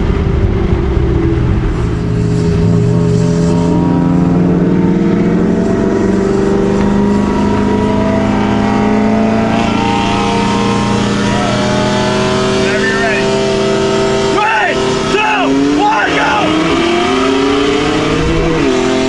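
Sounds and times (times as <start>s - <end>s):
car engine at full throttle: 0.0s - 19.0s.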